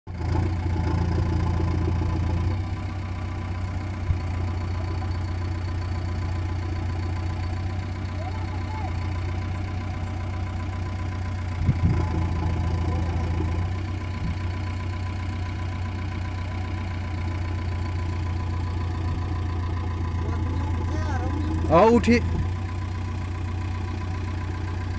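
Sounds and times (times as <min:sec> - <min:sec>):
diesel engine running: 0:00.1 - 0:24.9.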